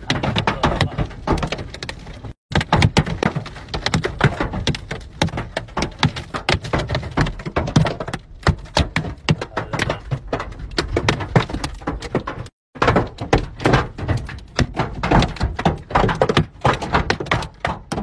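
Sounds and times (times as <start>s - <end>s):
hailstones hammering on car roof: 0.0s - 18.0s.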